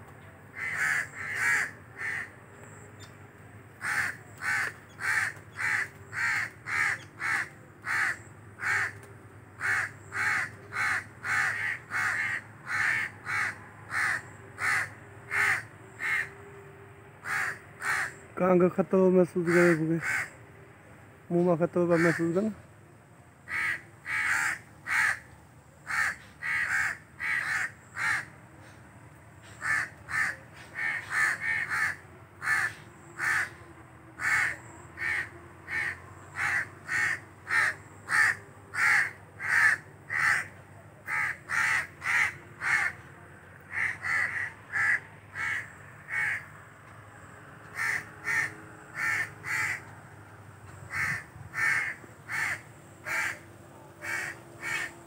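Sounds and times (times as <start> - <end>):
crows cawing harshly: 0.5 - 2.4, 3.8 - 16.4, 17.2 - 18.2, 19.2 - 20.4, 21.7 - 22.6, 23.4 - 28.8, 29.4 - 33.6, 34.2 - 46.6, 47.7 - 49.9, 50.7 - 55.0.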